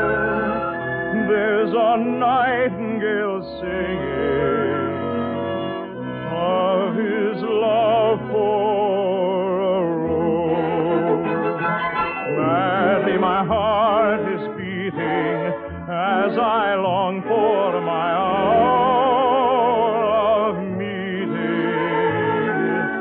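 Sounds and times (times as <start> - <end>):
orchestra playing: 0.0 - 23.0
operatic singer singing: 1.1 - 5.0, 6.2 - 11.6, 12.2 - 22.9.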